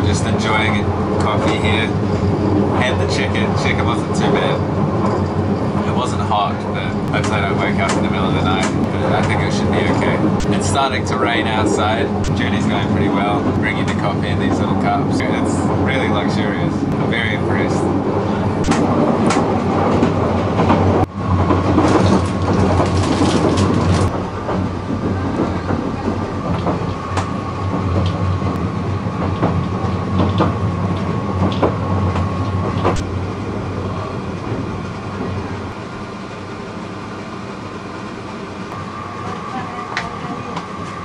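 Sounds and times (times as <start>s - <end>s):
train rumble: 0.0s - 41.0s
wheels clicking over rails: 0.1s - 33.1s.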